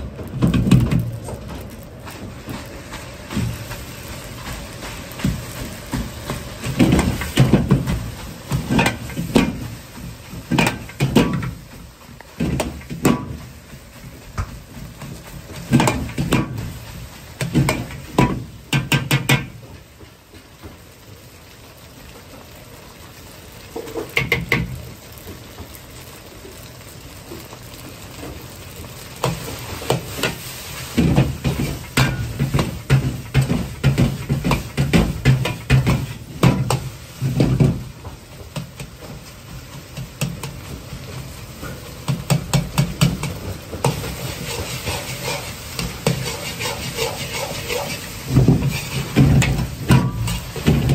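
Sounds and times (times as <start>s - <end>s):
gas burner noise: 0.0s - 50.9s
rice sizzling: 0.0s - 50.9s.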